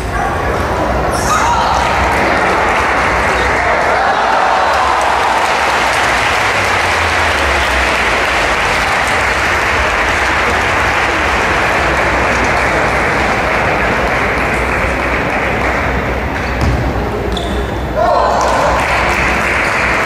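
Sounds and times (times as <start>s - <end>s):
crowd applauding: 1.5s - 16.4s, 18.0s - 20.0s.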